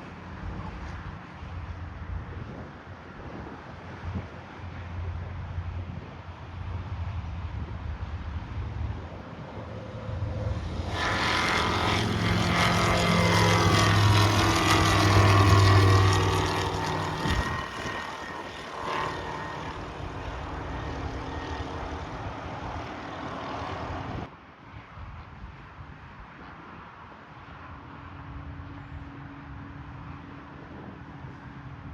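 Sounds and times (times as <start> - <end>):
light aircraft passing by: 0.0 - 31.9.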